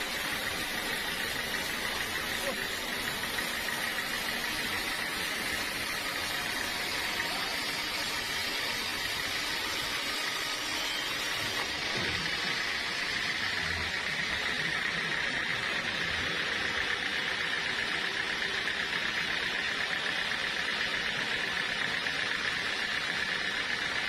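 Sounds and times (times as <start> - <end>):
sawmill machinery whirring: 0.0 - 24.0.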